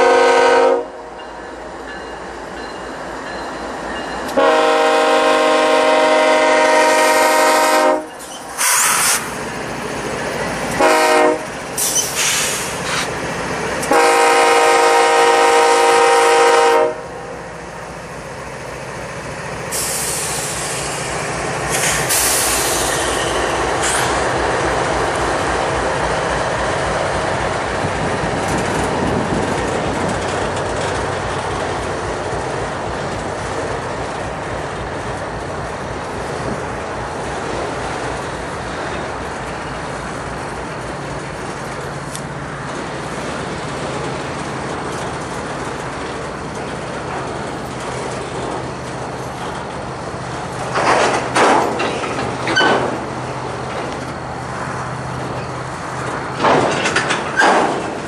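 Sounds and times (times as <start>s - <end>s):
diesel locomotives rumbling: 0.0s - 58.0s
train wheel and rail noise: 0.0s - 58.0s.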